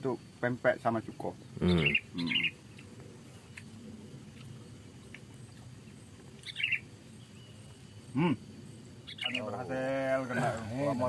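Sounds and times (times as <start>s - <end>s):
bird chirping: 1.0s - 11.0s.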